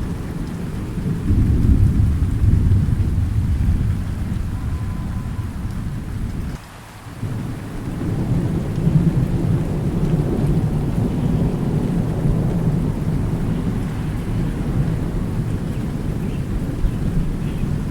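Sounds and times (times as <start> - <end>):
thunder rumbling: 0.0 - 6.6, 7.2 - 17.9
steady rain: 0.0 - 17.9.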